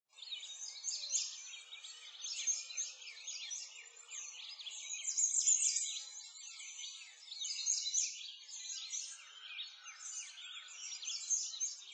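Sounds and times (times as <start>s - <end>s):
songbirds chirping and singing: 0.1s - 11.9s.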